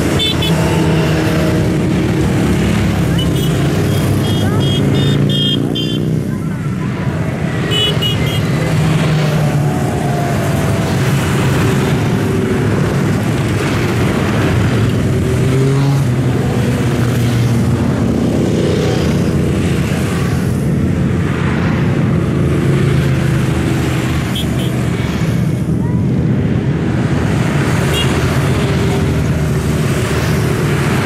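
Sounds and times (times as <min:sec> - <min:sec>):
motorcycles passing by: 0:00.0 - 0:31.0
road traffic passing: 0:00.0 - 0:31.0.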